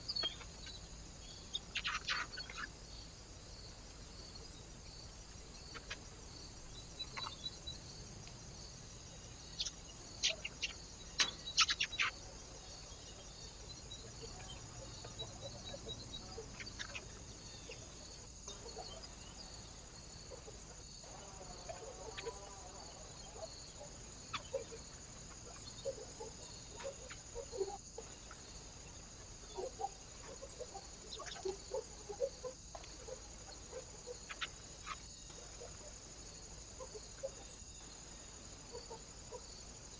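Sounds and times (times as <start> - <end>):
birds calling: 0.0 - 3.1, 9.1 - 22.4, 23.1 - 39.8
steady high-pitched hiss: 0.0 - 39.9.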